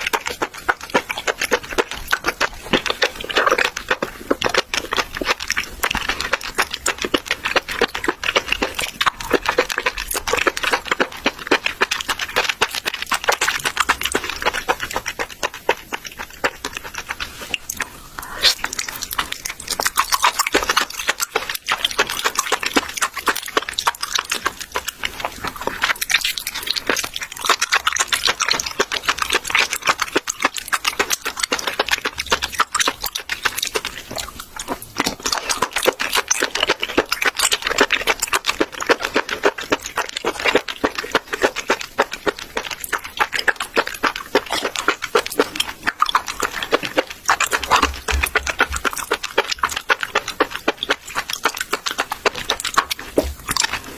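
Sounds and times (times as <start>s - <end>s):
wet chewing and slurping: 0.0s - 53.9s.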